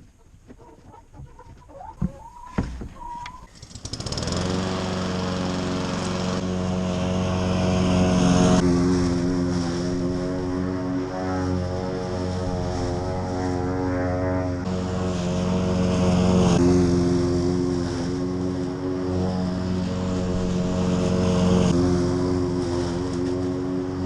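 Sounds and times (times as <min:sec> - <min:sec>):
tractor engine droning: 0:02.6 - 0:24.0.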